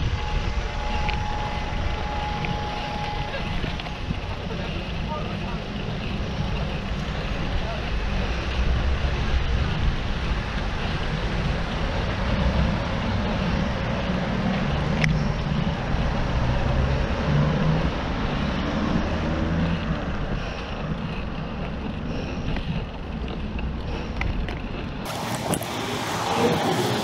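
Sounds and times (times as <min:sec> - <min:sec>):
road traffic passing: 0:00.0 - 0:27.0
wind rumble on microphone: 0:00.0 - 0:27.0.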